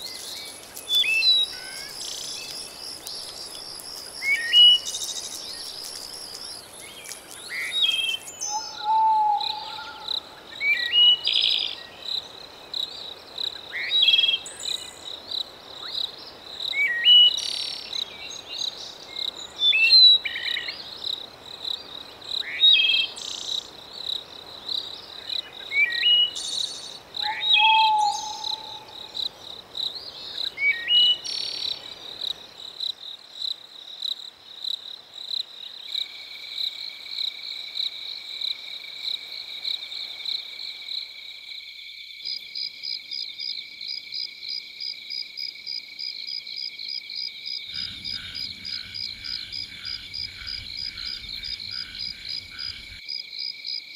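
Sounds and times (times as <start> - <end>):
frogs croaking: 0.0 - 53.9
insects trilling: 0.0 - 53.9.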